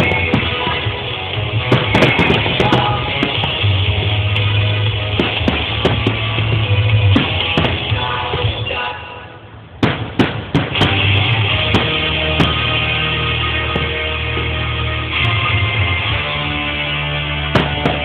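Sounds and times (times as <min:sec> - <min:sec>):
firework bursts banging: 0:00.0 - 0:08.7, 0:09.7 - 0:18.0
rock music with drums: 0:00.0 - 0:08.8, 0:09.8 - 0:18.0.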